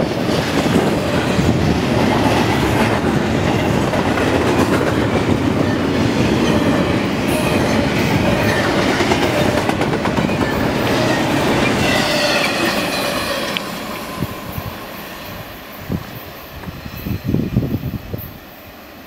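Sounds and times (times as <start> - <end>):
freight train rumble and rattle: 0.0 - 18.6.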